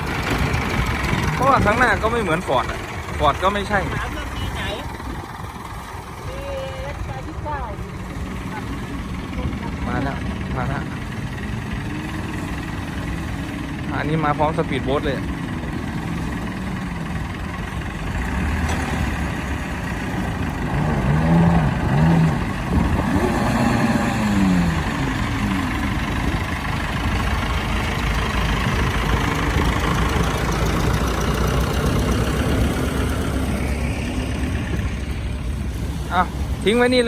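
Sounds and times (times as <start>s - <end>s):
tractor engine running under load: 0.0s - 37.0s.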